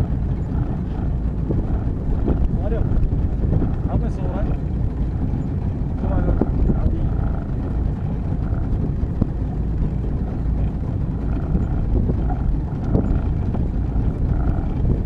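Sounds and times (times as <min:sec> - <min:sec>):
motorboat engine running: 0:00.0 - 0:15.0
wind buffeting microphone: 0:00.0 - 0:15.0.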